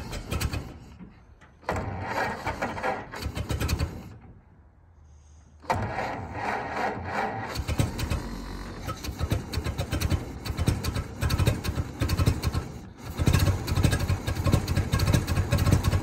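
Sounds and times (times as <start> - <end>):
old car engine revving and idling: 1.6 - 4.2, 5.7 - 16.0.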